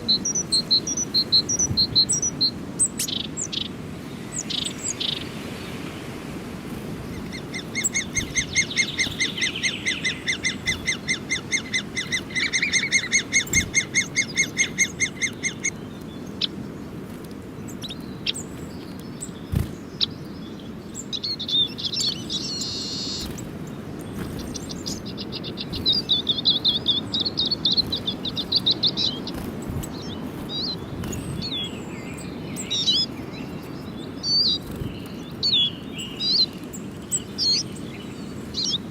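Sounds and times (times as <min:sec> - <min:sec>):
outdoor background noise: 0:00.0 - 0:38.9
small birds chirping: 0:00.0 - 0:38.9.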